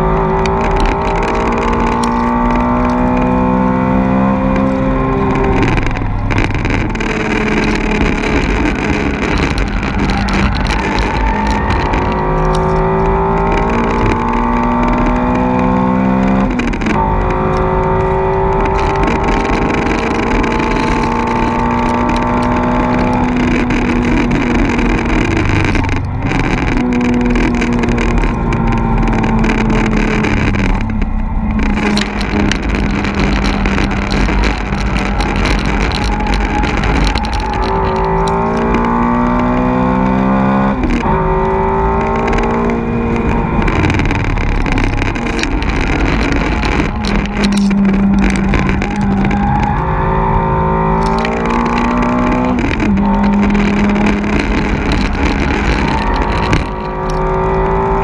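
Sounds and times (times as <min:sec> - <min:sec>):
car engine accelerating: 0:00.0 - 0:58.0
wind and tyre noise: 0:00.0 - 0:58.0.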